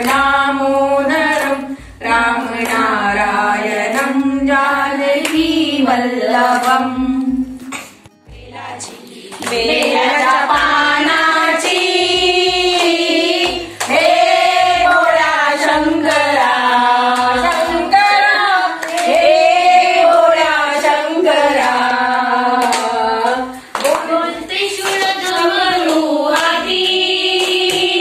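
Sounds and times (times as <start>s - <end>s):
hands clapping: 0.0s - 28.0s
women singing devotional song: 0.0s - 28.0s.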